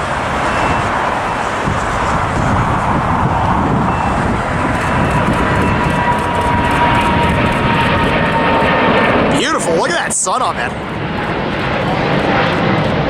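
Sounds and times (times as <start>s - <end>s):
high jet engine whine: 0.0s - 13.0s
jet engines roaring: 0.0s - 13.0s.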